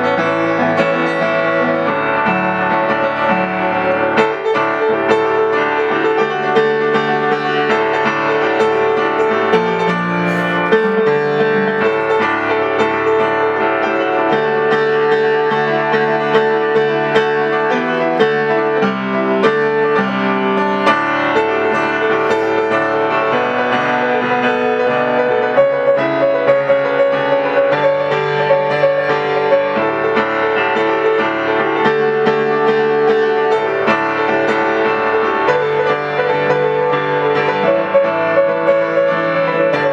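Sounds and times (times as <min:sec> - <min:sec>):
solo piano playing: 0:00.0 - 0:39.9.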